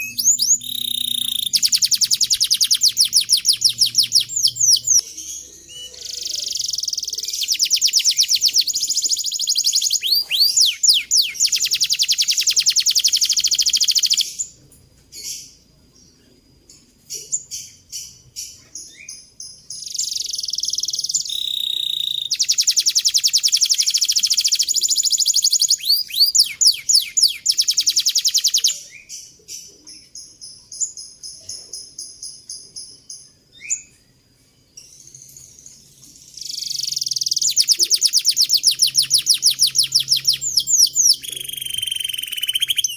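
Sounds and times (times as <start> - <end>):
canary singing: 0.0 - 15.6, 17.1 - 34.1, 34.8 - 42.9.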